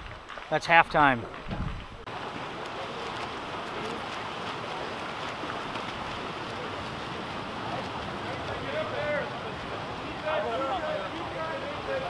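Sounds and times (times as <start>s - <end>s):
swimmers splashing in a pool: 0.0s - 12.0s.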